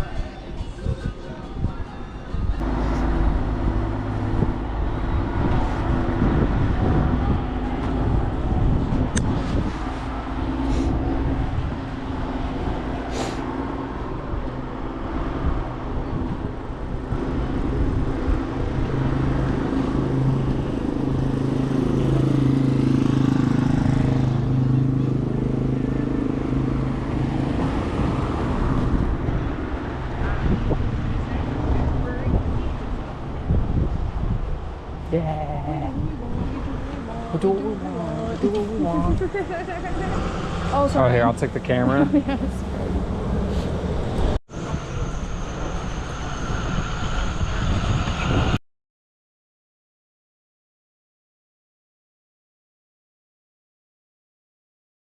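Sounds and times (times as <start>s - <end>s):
vehicle engine hum: 0.0s - 48.6s.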